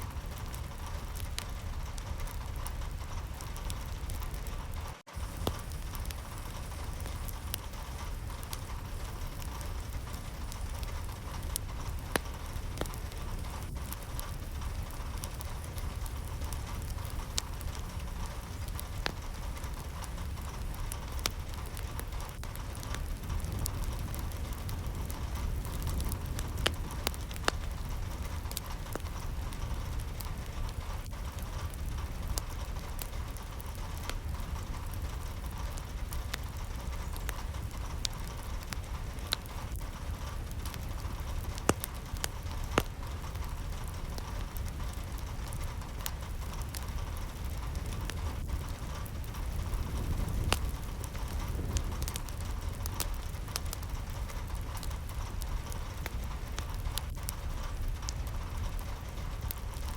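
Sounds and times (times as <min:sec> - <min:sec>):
low rumble: 0:00.0 - 0:59.9
steady rain: 0:00.0 - 0:59.9.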